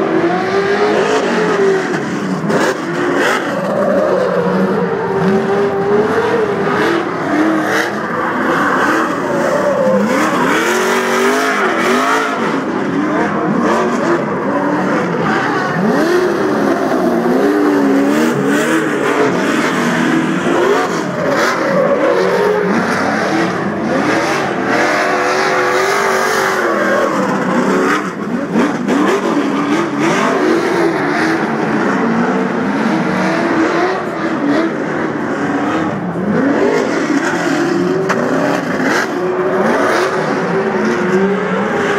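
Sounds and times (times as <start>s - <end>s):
truck engines revving: 0.0s - 41.9s.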